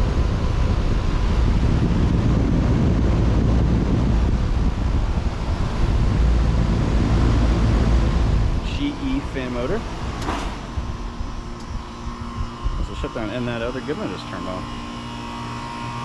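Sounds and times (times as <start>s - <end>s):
compressor hum: 0.0s - 16.0s
condenser fan whooshing: 0.0s - 16.0s
faint steady whine: 0.0s - 16.0s.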